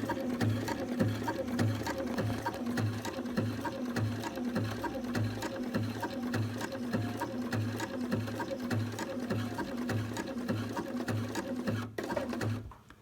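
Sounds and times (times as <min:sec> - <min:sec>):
sewing machine running: 0:00.0 - 0:12.7.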